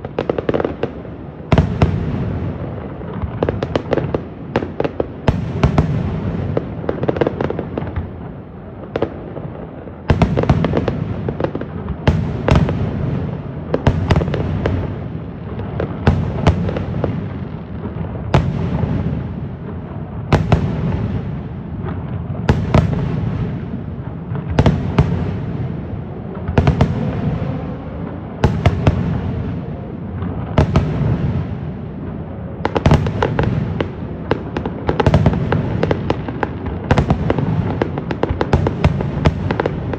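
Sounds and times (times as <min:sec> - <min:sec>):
fireworks rumbling and crackling: 0:00.0 - 0:39.9.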